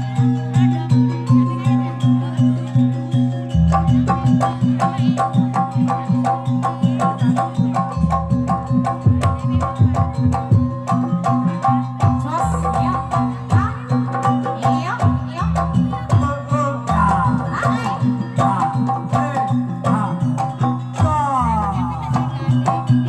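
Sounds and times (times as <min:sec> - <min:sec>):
moving bass line: 0:00.0 - 0:23.0.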